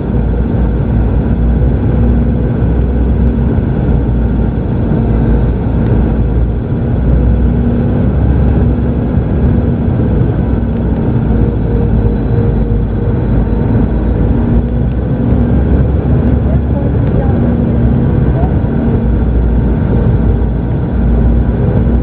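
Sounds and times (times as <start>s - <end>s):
jet engine roar in cabin: 0.0s - 22.0s
low steady hum: 0.0s - 22.0s.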